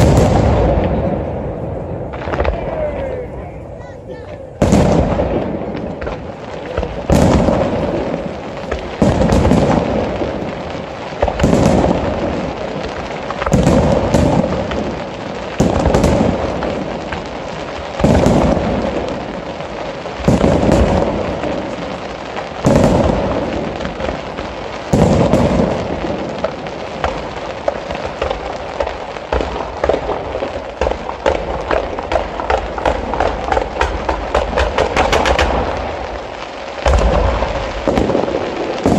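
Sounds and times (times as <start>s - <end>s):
firework booms: 0.0s - 38.9s
rapid firework crackling: 0.0s - 38.9s.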